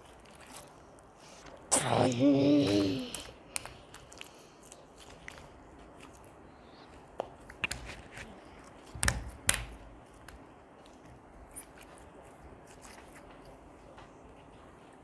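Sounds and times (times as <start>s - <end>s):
slime squelches: 0.0s - 15.0s.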